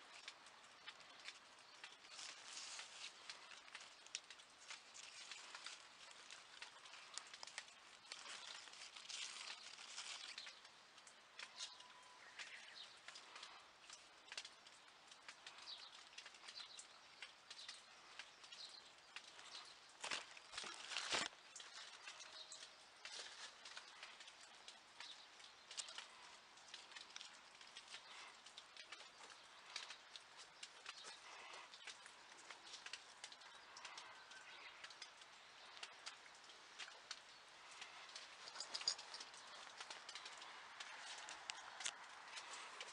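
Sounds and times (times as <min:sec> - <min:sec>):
rain on plastic film: 0:00.0 - 0:42.9
soft ticks and rustling: 0:00.0 - 0:42.9.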